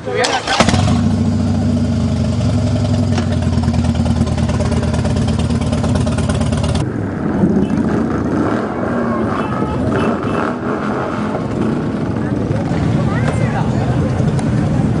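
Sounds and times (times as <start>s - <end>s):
motorcycle engine running: 0.4s - 15.0s.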